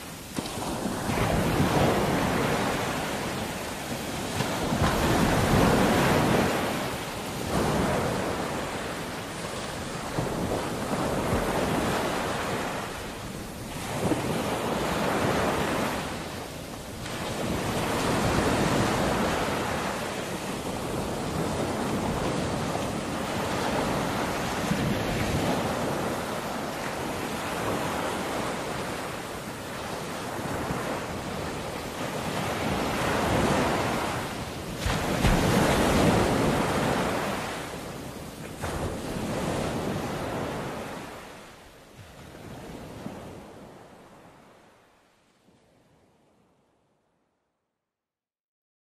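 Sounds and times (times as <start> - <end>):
waves washing in: 0.0 - 45.6.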